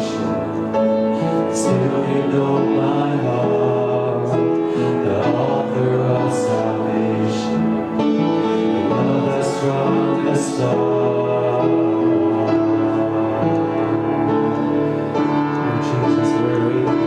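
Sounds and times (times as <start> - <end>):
band playing worship song: 0.0 - 17.0
congregation singing: 0.0 - 17.0.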